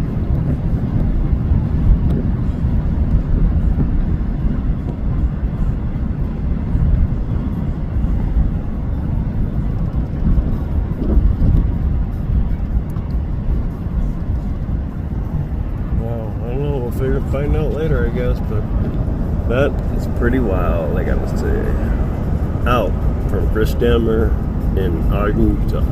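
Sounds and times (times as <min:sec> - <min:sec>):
car road and wind noise: 0:00.0 - 0:25.9.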